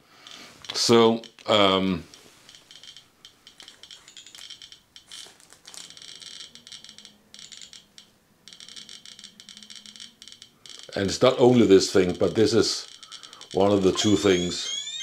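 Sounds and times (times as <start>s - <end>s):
radiation detector clicking: 0.2s - 5.1s, 5.7s - 15.0s.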